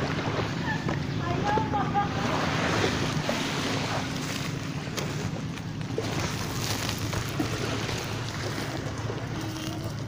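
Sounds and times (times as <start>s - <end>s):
surf: 0.0s - 10.0s.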